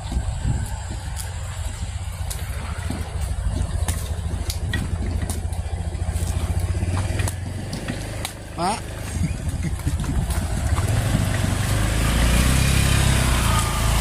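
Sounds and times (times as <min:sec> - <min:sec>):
cart wheels rumbling on concrete: 0:00.0 - 0:14.0
hooves and wood clacking: 0:00.0 - 0:14.0.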